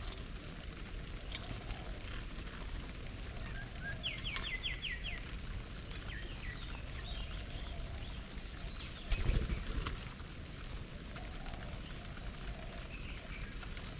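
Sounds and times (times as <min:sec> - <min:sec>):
songbirds chirping: 0:00.0 - 0:13.9.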